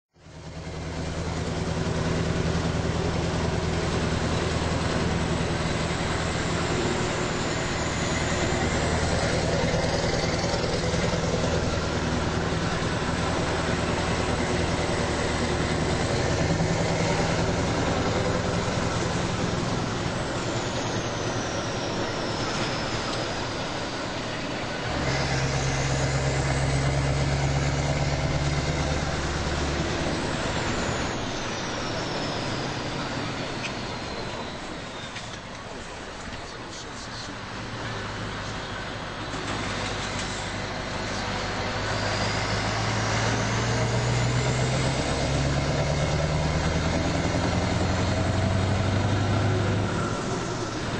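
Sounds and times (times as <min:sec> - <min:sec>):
car engine pulling uphill: 0:00.1 - 0:50.9
tyre and road noise: 0:00.2 - 0:50.9.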